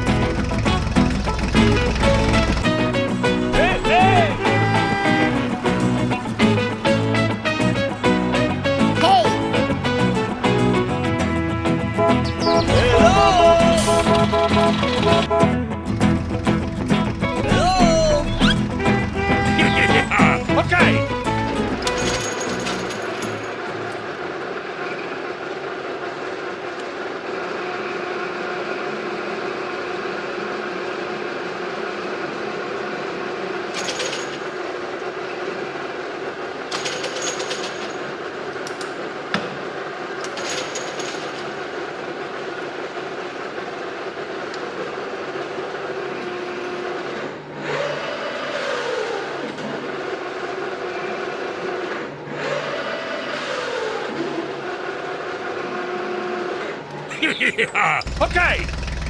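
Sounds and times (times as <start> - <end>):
excavator motor humming: 0.0 - 33.7, 41.3 - 59.0.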